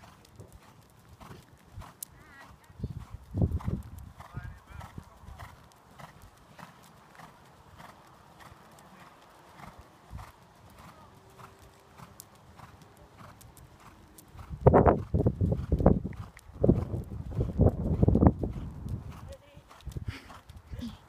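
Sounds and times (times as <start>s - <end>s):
horse hoofbeats cantering: 0.0s - 21.0s.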